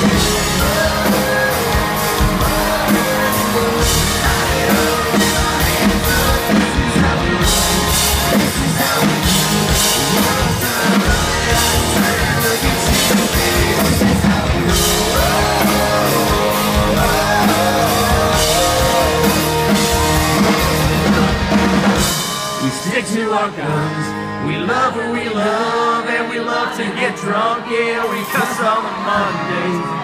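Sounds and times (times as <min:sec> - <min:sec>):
drums: 0:00.0 - 0:24.3
electric guitar: 0:00.0 - 0:26.4
country-rock band playing: 0:00.0 - 0:30.0.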